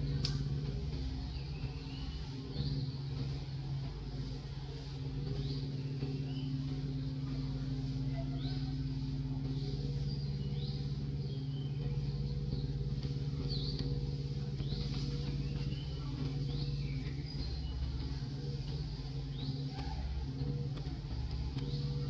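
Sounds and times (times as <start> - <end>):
engine idling hum: 0.0 - 22.0.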